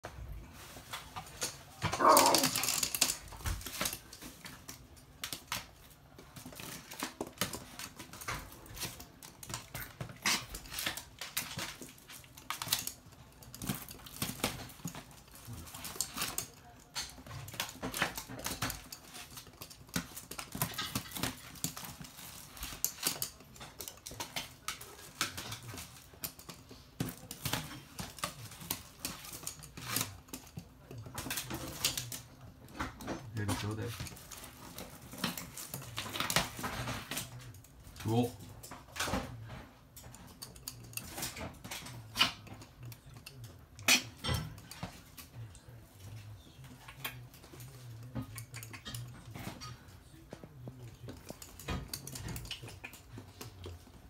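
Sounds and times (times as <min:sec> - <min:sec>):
dog claws clicking on hard floor: 0:00.6 - 0:54.0.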